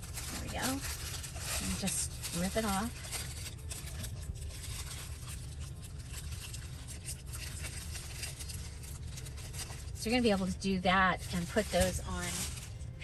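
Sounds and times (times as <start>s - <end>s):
paper rustling and scraping: 0.0s - 13.0s
steady low hum: 0.0s - 13.0s.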